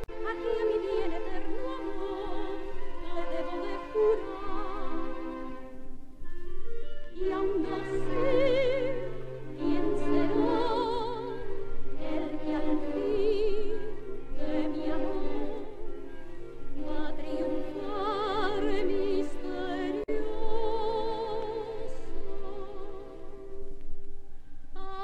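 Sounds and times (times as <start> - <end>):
chamber orchestra waltz: 0.0 - 25.0.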